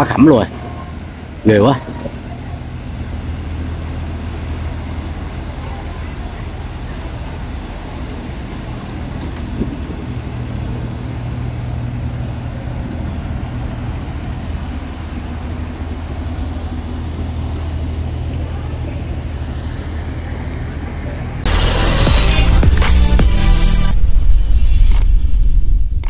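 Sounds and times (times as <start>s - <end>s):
small boat engine running: 0.0s - 23.7s
constant rushing noise: 0.0s - 26.0s.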